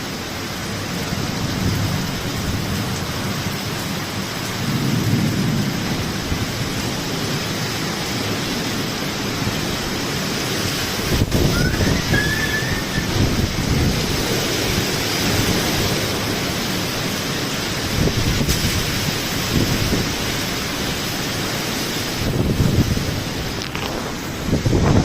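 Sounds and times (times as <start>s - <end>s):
heavy rain pouring: 0.0s - 25.0s
wind gusts buffeting microphone: 4.4s - 25.0s.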